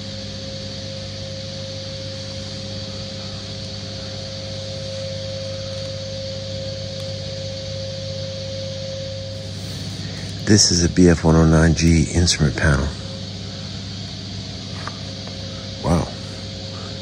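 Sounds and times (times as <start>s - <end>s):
machine hum in large hall: 0.0s - 17.0s.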